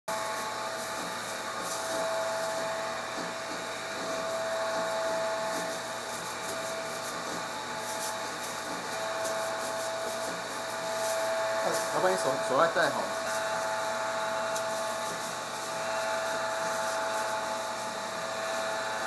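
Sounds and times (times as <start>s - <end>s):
small electric motor whirring: 0.1s - 19.0s
thin whine: 0.1s - 19.0s.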